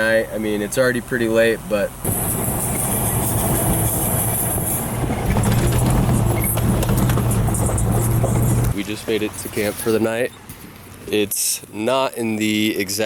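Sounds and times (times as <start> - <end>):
vehicle engine drone: 0.0 - 11.5
tyre and road rumble: 0.0 - 13.0.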